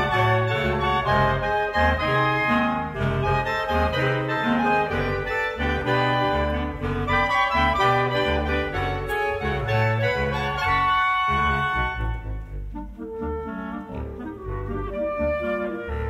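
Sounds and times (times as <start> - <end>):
clarinet ensemble chords: 0.0 - 16.0.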